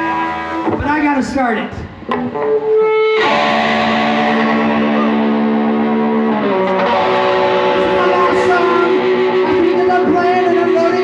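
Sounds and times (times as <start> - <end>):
distorted electric guitar chords: 0.0 - 11.0.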